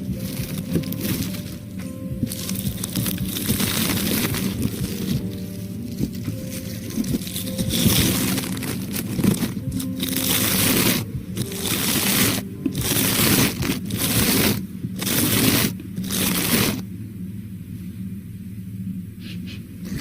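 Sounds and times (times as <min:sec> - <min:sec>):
close rubbing noises: 0:00.0 - 0:16.8.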